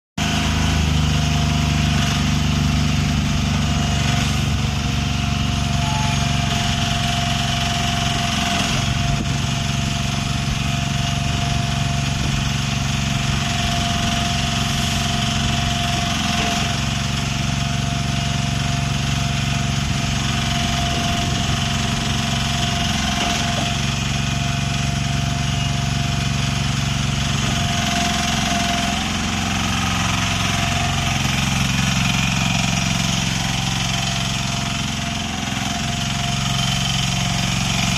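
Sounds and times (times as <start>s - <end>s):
small excavator engine running: 0.2s - 37.9s.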